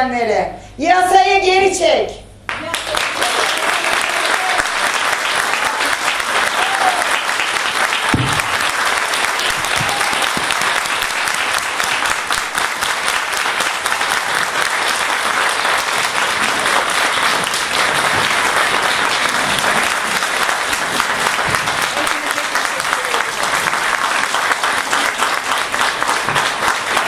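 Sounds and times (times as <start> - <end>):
audience clapping: 2.4 - 27.0.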